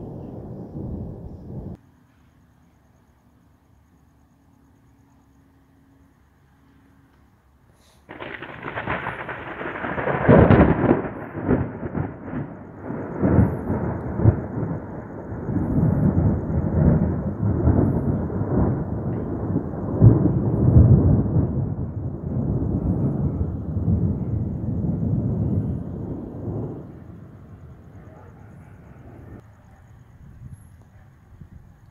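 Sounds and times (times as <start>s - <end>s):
thunder rumbling: 0.0s - 1.8s, 8.0s - 31.9s.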